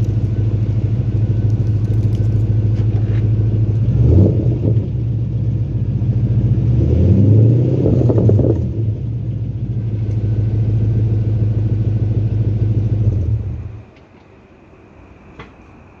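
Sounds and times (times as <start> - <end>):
engine revving: 0.0 - 13.8
car engine idling with deep rumble: 0.0 - 14.0.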